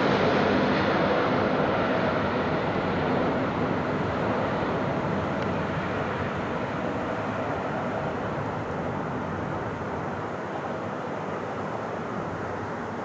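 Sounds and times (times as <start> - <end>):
jet airliner rushing overhead: 0.0 - 13.0.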